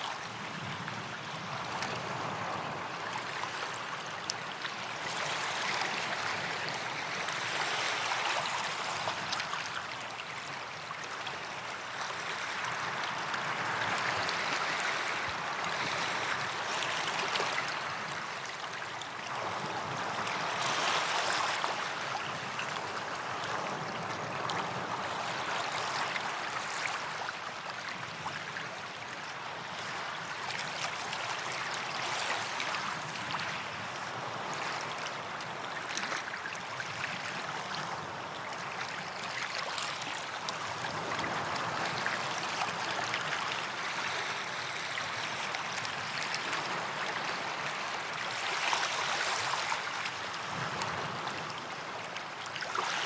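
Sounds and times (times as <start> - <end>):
small waves washing onto beach: 0.0 - 53.0.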